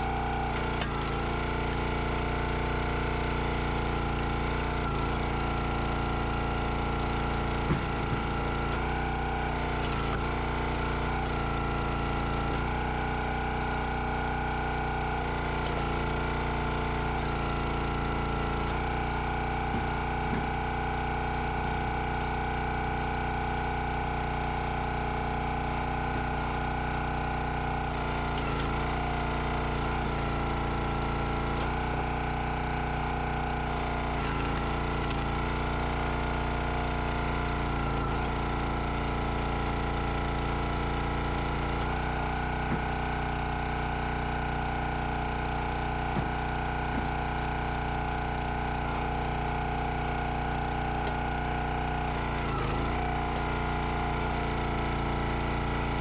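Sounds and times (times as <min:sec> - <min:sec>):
log splitter engine running: 0:00.0 - 0:56.0.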